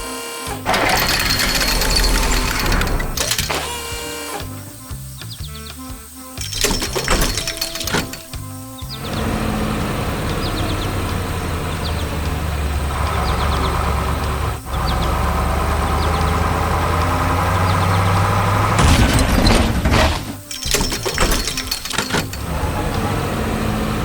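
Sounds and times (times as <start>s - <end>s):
loud hissing clattering burst: 0.5s - 23.6s
heavy vehicle engine humming: 0.5s - 24.0s.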